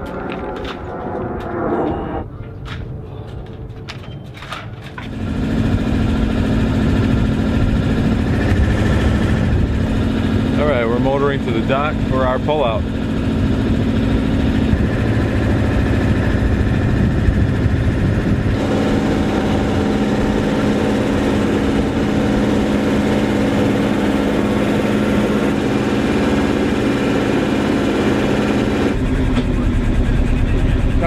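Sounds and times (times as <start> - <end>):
boat engine humming: 0.0 - 31.0.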